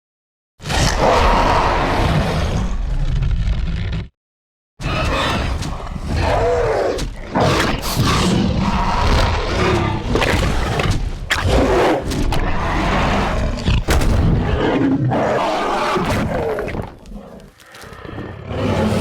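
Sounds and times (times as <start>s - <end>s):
creature roars: 0.6s - 4.1s, 4.8s - 19.0s.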